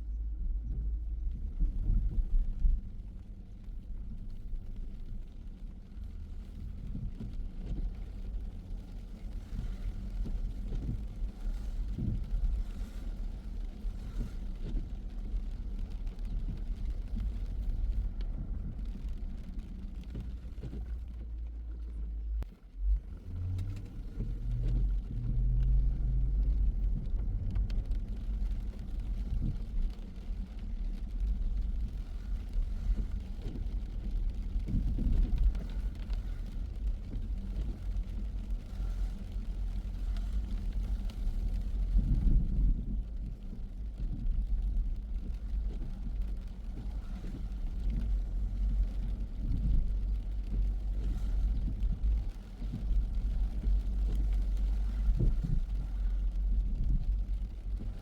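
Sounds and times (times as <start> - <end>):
car engine and tyre rumble: 0.0 - 58.0
low engine tone: 0.0 - 58.0.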